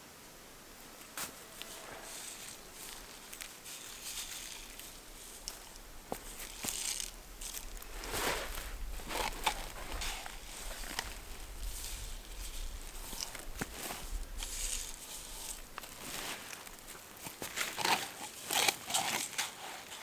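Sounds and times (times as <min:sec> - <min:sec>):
footsteps crunching through dry leaves: 0:01.0 - 0:20.0.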